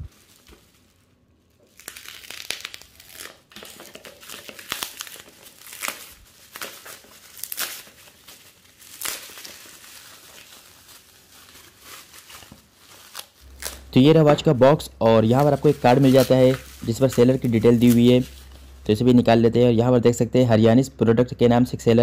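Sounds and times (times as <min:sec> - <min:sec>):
plastic tearing: 0:00.0 - 0:14.3, 0:15.3 - 0:18.8
plastic wrap crinkling: 0:00.0 - 0:19.4.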